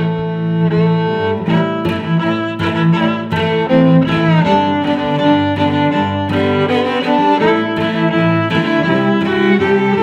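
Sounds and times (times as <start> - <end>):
string music with held notes: 0.0 - 10.0.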